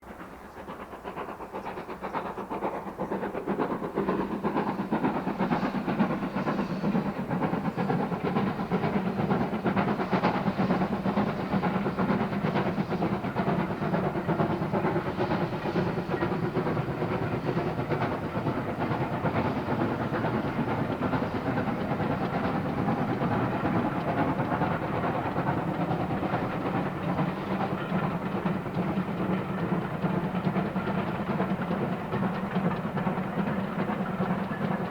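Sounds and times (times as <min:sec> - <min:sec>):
steam locomotive exhaust beating: 0:00.0 - 0:34.9
wheels clattering on rails: 0:00.0 - 0:34.9.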